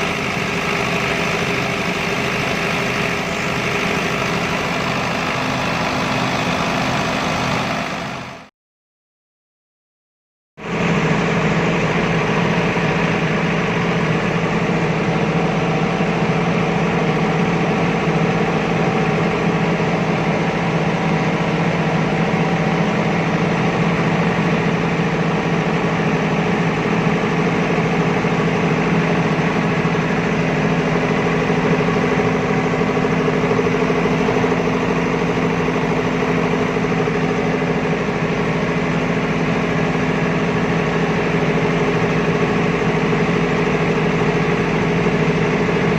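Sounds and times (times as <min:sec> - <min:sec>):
diesel generator engine running: 0:00.0 - 0:08.5, 0:10.6 - 0:45.9.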